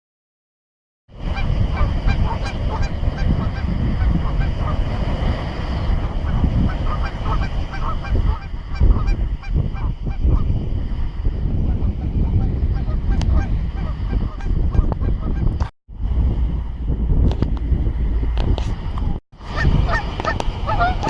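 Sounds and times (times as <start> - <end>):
ocean surf rumble: 1.1 - 15.2, 15.9 - 21.0
wind: 1.1 - 21.0.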